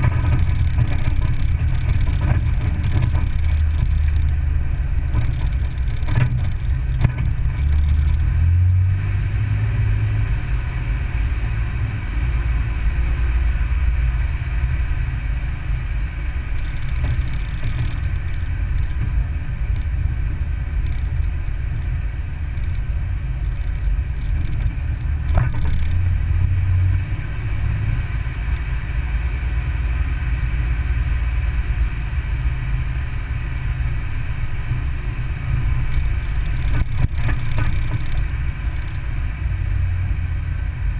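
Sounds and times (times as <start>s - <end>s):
vehicle driving on dirt road: 0.0s - 40.9s.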